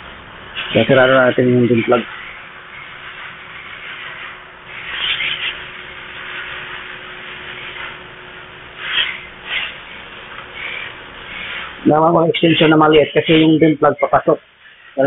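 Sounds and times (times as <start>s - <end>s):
gloved hands rubbing and scraping: 0.6s - 8.0s, 8.8s - 15.0s.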